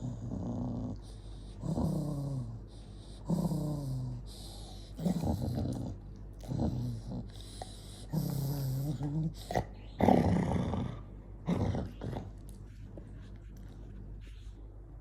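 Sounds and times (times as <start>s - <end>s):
dog growling: 0.0s - 12.5s.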